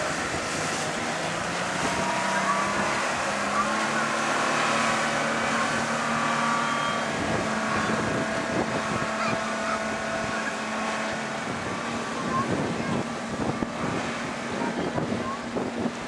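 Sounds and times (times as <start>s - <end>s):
steady engine hum: 0.0s - 16.0s
wind rushing over microphone: 0.0s - 16.0s.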